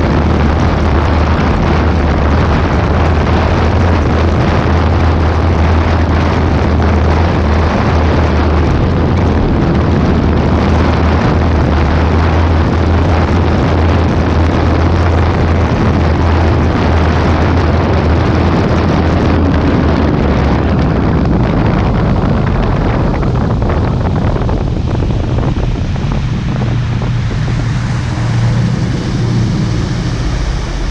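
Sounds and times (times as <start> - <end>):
boat engines running: 0.0 - 30.9
water rushing: 0.0 - 30.9
wind buffeting microphone: 0.0 - 30.9.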